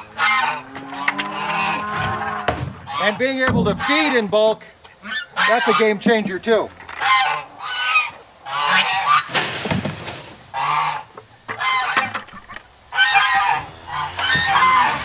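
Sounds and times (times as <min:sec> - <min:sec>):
fowl honking calls: 0:00.0 - 0:09.4, 0:10.4 - 0:15.0.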